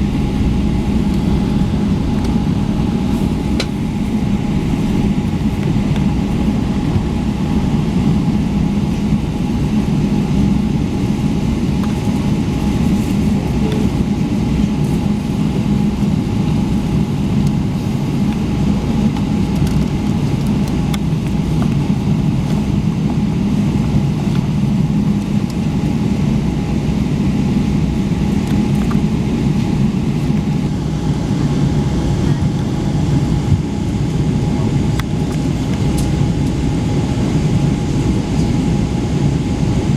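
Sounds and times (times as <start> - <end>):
airplane cabin engine rumble: 0.0 - 39.9
faint steady whine: 0.0 - 39.9.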